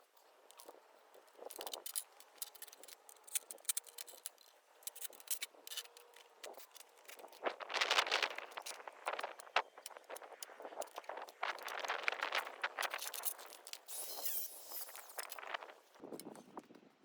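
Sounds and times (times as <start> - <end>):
metallic clicks and scrapes: 0.2 - 16.6.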